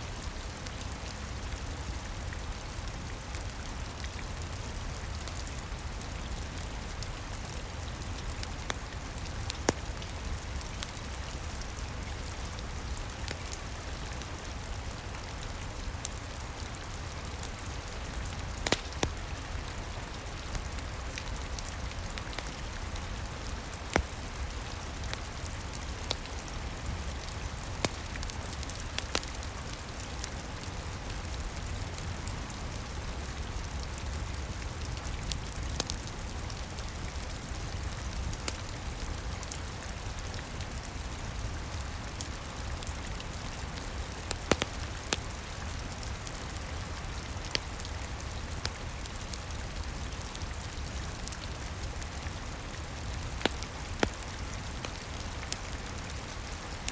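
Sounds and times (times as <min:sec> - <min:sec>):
steady rain: 0:00.0 - 0:56.9
wood fire crackling: 0:00.1 - 0:56.9.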